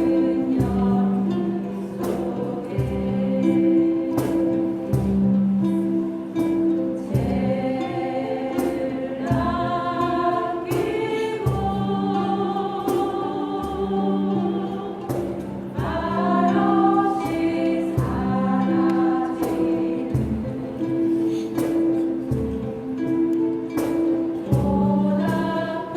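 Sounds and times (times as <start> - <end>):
voices singing together: 0.0 - 5.8, 6.4 - 25.9
instrumental accompaniment with beat: 0.0 - 25.9.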